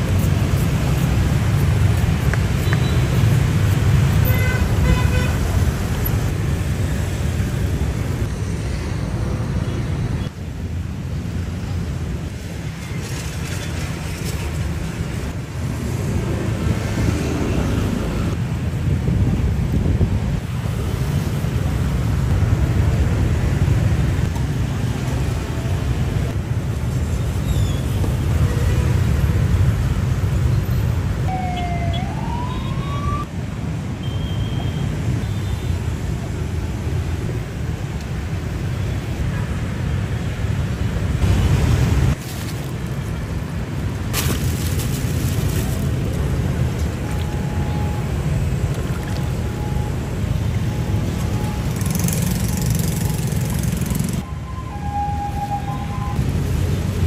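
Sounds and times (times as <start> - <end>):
low rumble of traffic: 0.0 - 57.0.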